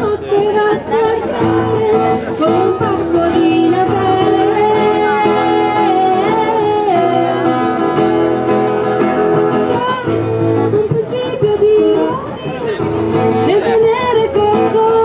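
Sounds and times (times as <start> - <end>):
strummed acoustic guitar: 0.0 - 15.0
woman singing into a microphone: 0.0 - 15.0.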